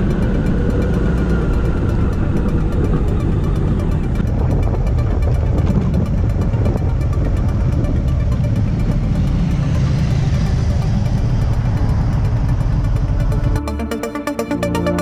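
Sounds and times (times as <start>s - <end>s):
wind rumble on microphone: 0.0s - 13.6s
engine running: 0.0s - 15.0s.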